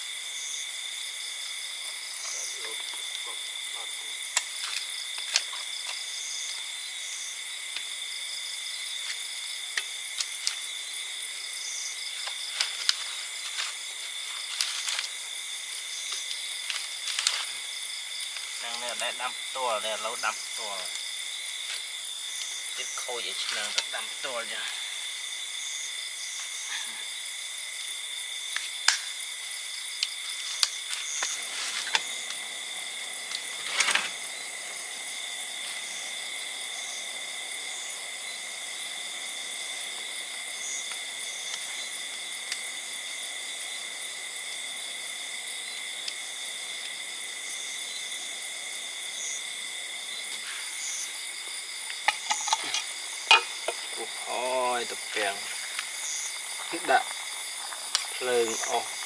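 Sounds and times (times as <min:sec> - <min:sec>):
forest insects trilling: 0:00.0 - 0:59.0
rustle: 0:00.0 - 0:59.0.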